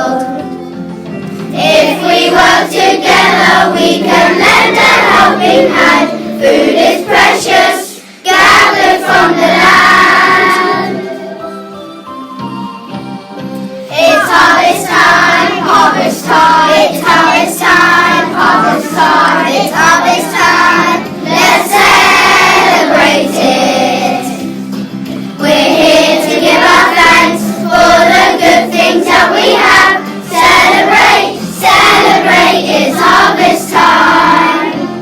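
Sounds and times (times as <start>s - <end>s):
children's choir singing: 0.0s - 24.6s, 25.3s - 35.0s
backing music: 0.0s - 35.0s.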